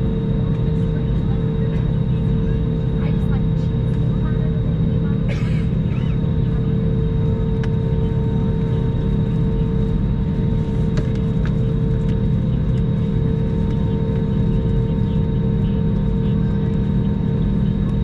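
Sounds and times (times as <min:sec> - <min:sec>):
aircraft cabin rumble and hum: 0:00.0 - 0:18.0.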